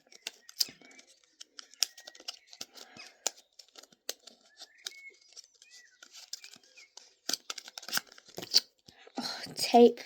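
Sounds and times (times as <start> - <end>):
light clicks scratches and crinkles: 0.0 - 9.2
fingers picking at packaging: 0.1 - 8.6.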